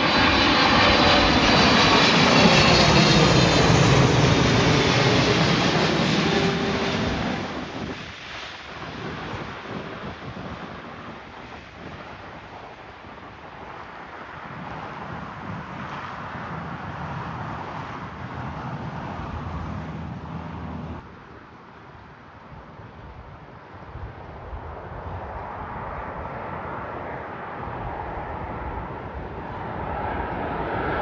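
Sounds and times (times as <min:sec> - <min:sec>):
jet engine noise: 0:00.0 - 0:31.0
wind on microphone: 0:00.0 - 0:31.0.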